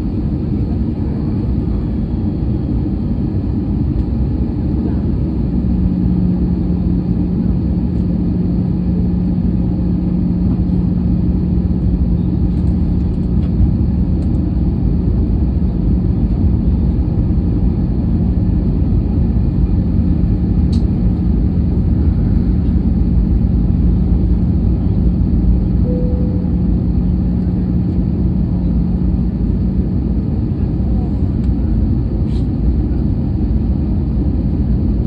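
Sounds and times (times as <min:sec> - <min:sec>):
cabin airflow: 0:00.0 - 0:34.3
aircraft engine rumble: 0:00.0 - 0:35.0
constant low hum: 0:00.0 - 0:35.0.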